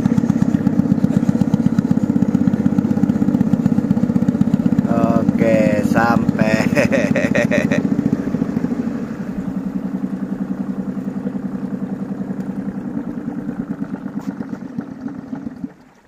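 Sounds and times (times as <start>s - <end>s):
small boat engine puttering: 0.0s - 16.0s.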